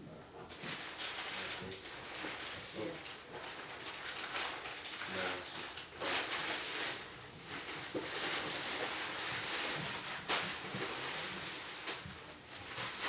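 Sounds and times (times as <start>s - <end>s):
plastic wrap rustling: 0.4s - 13.0s
sharp plastic crackle: 0.5s - 13.0s.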